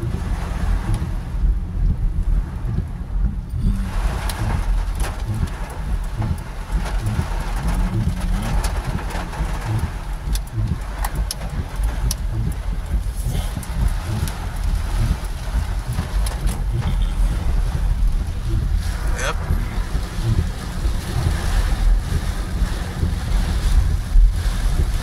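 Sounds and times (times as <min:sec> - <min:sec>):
car tyres rumbling on wet road: 0:00.0 - 0:25.0
rain tapping on windscreen: 0:00.0 - 0:25.0.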